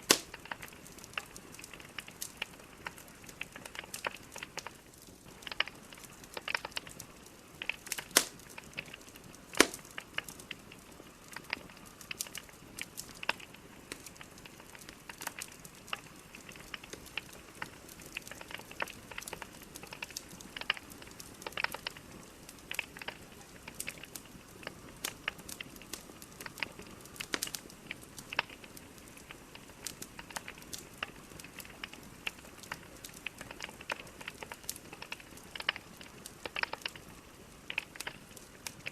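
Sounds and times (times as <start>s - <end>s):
fire crackling and popping: 0.0s - 38.9s
soft fire hiss: 0.0s - 38.9s.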